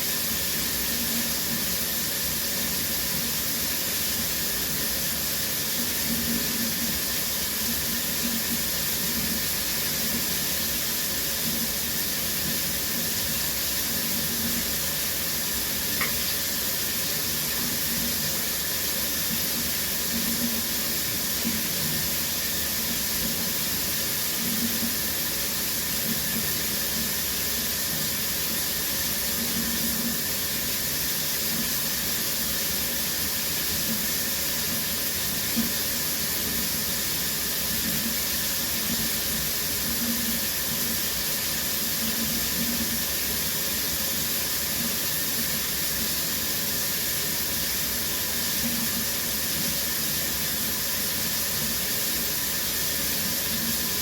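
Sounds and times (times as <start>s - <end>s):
shower water spraying: 0.0s - 54.0s.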